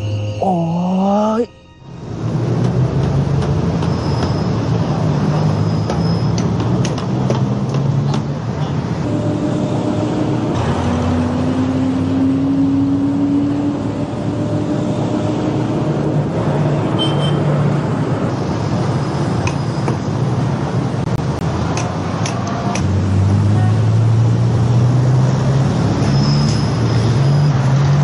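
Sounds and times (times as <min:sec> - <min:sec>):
engine hum rising in pitch: 0:00.0 - 0:07.7, 0:08.8 - 0:19.8, 0:22.8 - 0:28.0
truck and bus engines passing: 0:00.0 - 0:28.0.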